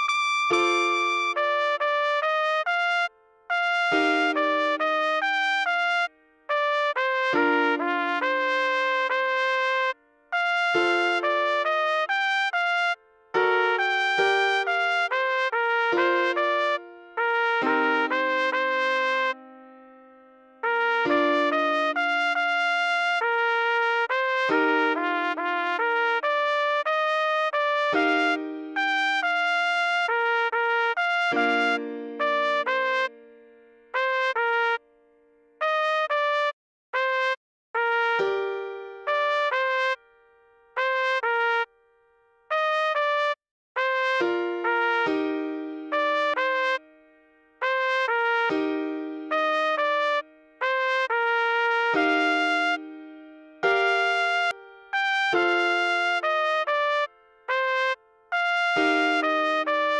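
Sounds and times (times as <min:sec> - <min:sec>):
trumpet playing slow melody: 0:00.0 - 0:20.0, 0:20.6 - 0:33.3, 0:33.9 - 0:34.8, 0:35.6 - 0:40.0, 0:40.8 - 0:41.7, 0:42.5 - 0:59.9.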